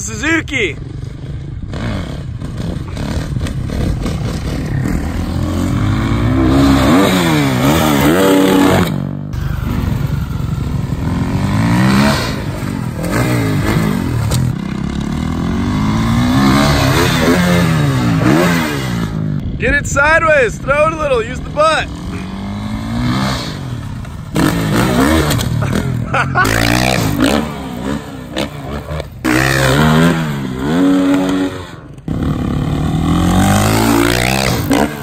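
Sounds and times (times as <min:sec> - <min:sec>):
dirt bike engine revving: 0:00.0 - 0:20.1, 0:20.7 - 0:35.0.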